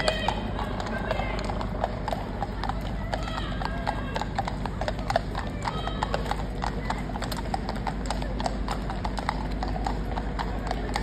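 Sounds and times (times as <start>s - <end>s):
horse hooves clip-clopping on pavement: 0.0s - 11.0s.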